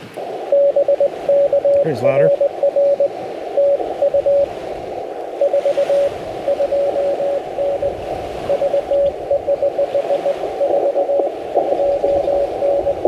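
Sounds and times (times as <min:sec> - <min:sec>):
radio hiss: 0:00.0 - 0:13.0
morse code beeps: 0:00.2 - 0:13.0.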